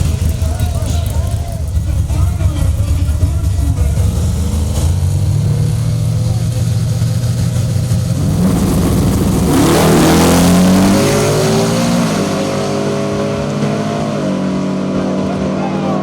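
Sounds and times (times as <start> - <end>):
truck engine accelerating past: 0.0 - 16.0.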